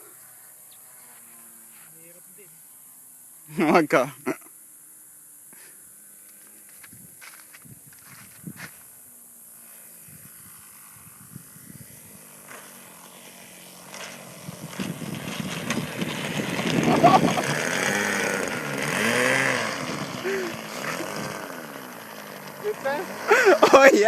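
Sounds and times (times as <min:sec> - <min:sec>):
model plane engine in flight: 0:00.0 - 0:03.4, 0:05.5 - 0:24.0.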